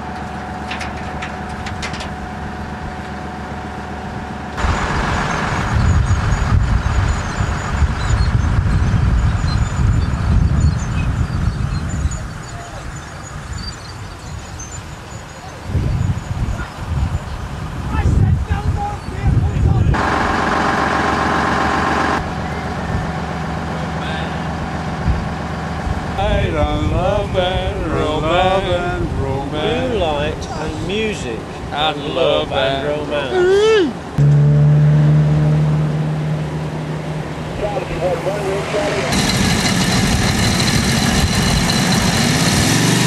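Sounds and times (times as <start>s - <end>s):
high dense whine: 0.0s - 14.2s, 17.8s - 43.0s
armoured vehicle engine running: 0.0s - 15.3s, 17.4s - 33.3s, 34.1s - 43.0s.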